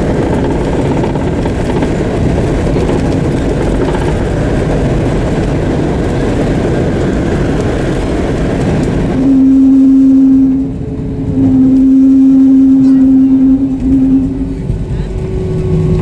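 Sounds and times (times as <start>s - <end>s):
airplane cabin engine roar: 0.0s - 16.0s
steady low hum: 0.0s - 16.0s.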